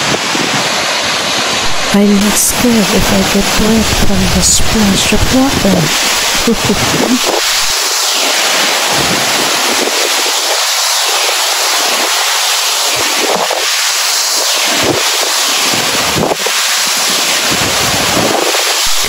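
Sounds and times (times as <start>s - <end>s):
wind buffeting microphone: 0.0s - 12.2s, 12.9s - 13.8s, 14.4s - 19.0s
waterfall roaring: 0.0s - 19.0s.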